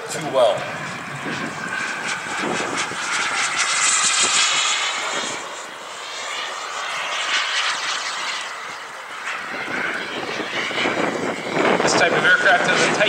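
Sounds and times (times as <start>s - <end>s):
model jet turbine whining: 0.0s - 13.0s.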